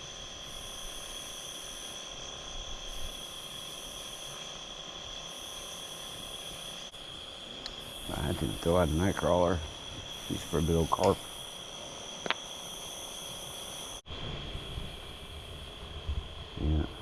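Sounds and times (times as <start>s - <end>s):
crickets trilling: 0.0s - 17.0s
high insect buzz: 0.0s - 17.0s.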